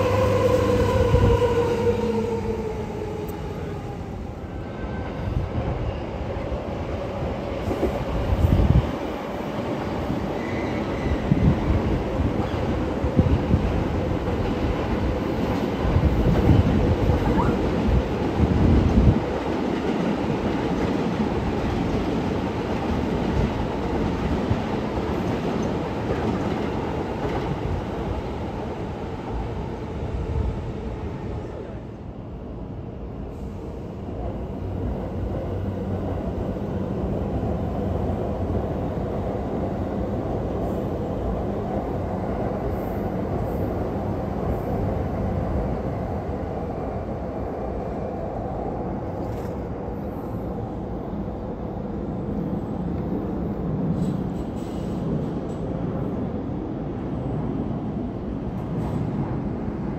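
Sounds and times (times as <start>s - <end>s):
electric train on rails: 0.0s - 59.9s.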